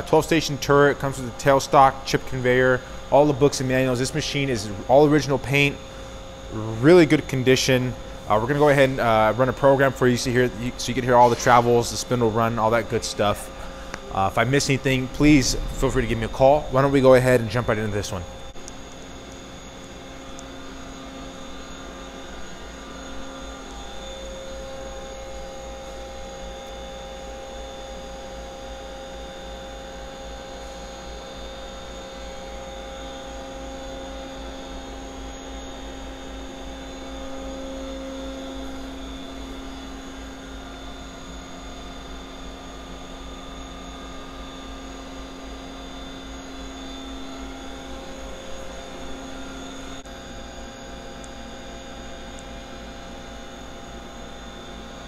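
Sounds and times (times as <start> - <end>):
low machine whine: 0.0 - 55.0
machine hum with whining tones: 0.0 - 55.0.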